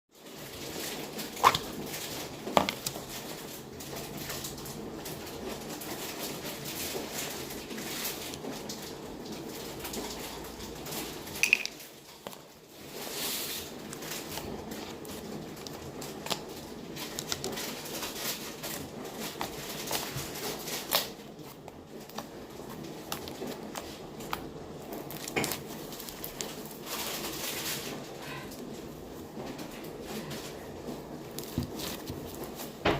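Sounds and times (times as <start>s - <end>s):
slime squishing: 0.2s - 32.9s.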